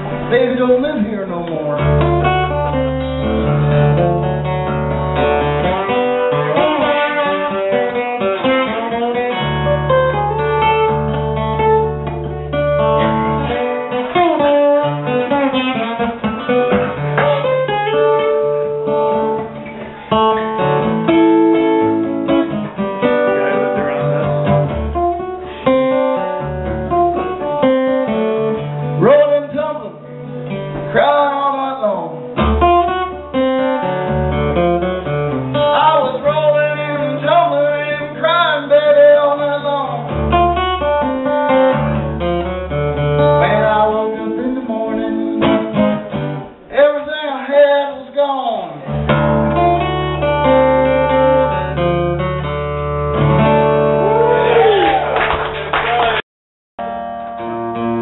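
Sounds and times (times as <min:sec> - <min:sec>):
acoustic guitar picking: 0:00.0 - 0:54.4, 0:56.8 - 0:58.0.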